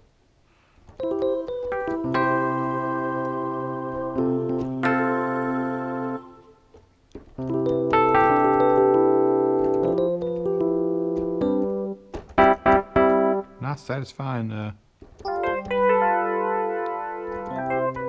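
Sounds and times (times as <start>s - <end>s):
electric piano chords: 0.9s - 13.7s, 15.1s - 18.0s.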